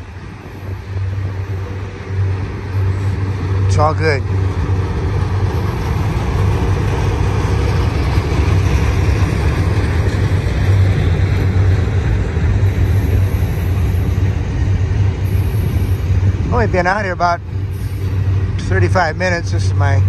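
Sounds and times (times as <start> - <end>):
low hum: 0.0 - 20.0
steel wheels rumbling on rails: 0.0 - 20.0.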